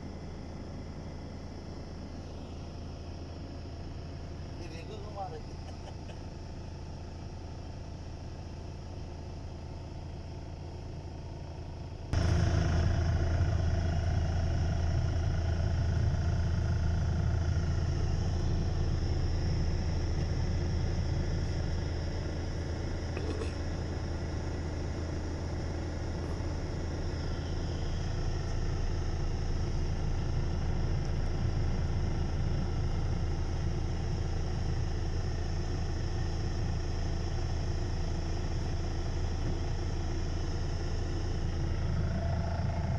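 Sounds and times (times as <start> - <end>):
diesel truck engine droning: 0.0 - 42.9.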